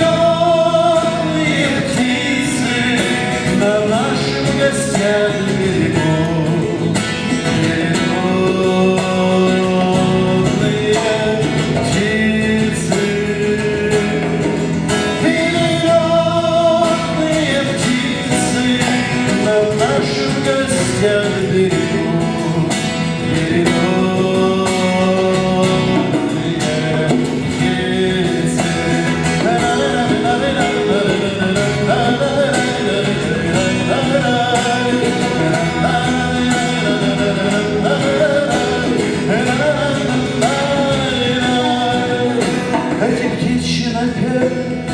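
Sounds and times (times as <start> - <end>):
acoustic guitar: 0.0 - 44.9
man singing: 0.0 - 44.9.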